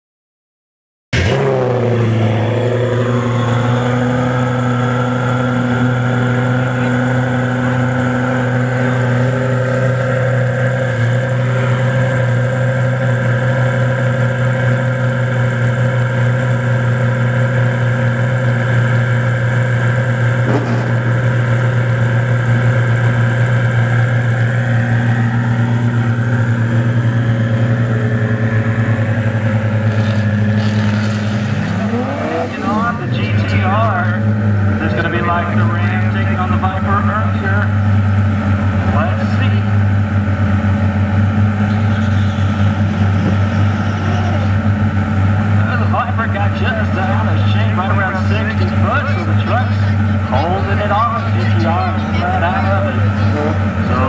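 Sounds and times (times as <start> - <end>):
car engine idling: 1.2 - 54.0.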